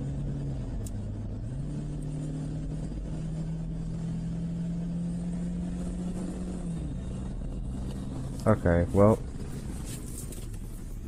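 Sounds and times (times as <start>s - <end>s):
car engine hum: 0.0s - 11.0s.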